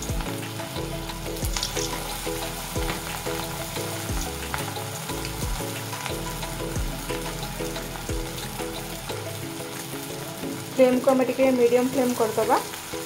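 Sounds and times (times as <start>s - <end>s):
background music with a beat: 0.0s - 10.7s
deep-frying in hot oil: 0.0s - 13.0s.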